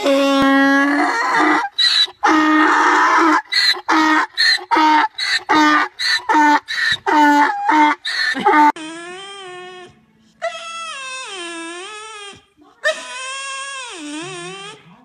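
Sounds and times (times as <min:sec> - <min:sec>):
donkey braying: 0:00.0 - 0:15.0.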